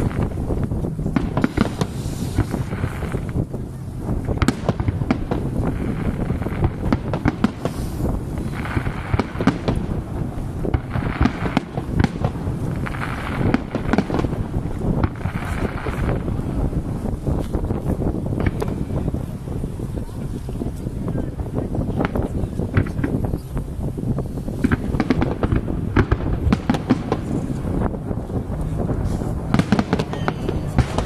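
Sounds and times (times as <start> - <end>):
firework shells bursting: 0.0 - 18.8, 24.6 - 31.0
continuous low rumble: 0.0 - 31.0
fireworks crackling: 0.0 - 31.0.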